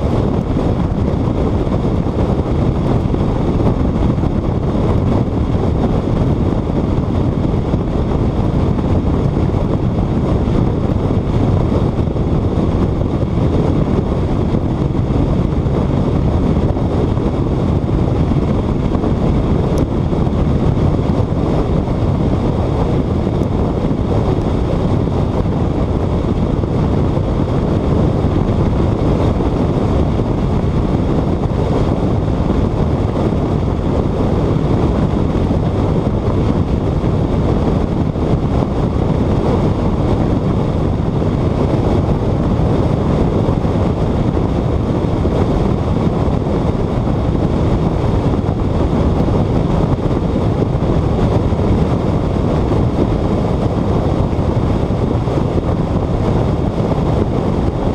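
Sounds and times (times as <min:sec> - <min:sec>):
car road roar: 0:00.0 - 0:57.9
wind rushing over camera: 0:00.0 - 0:57.9.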